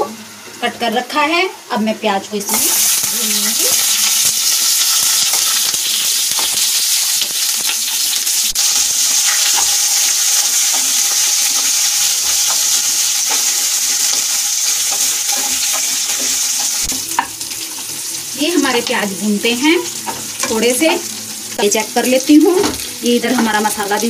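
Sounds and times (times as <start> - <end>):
onion sizzling in hot oil: 0.0 - 24.0.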